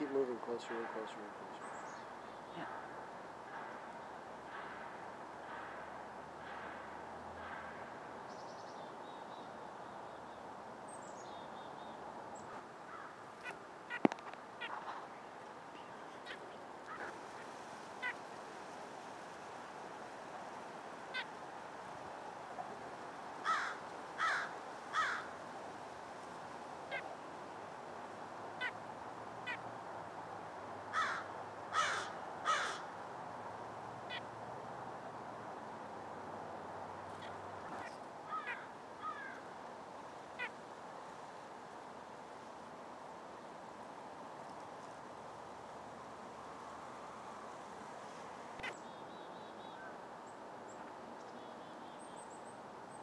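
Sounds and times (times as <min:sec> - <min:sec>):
low background noise: 0:00.0 - 0:53.0.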